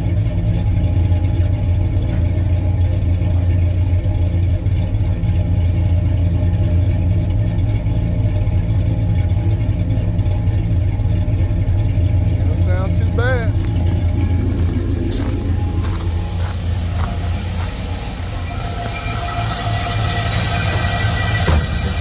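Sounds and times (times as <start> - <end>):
vee eight engine idling: 0.0 - 22.0.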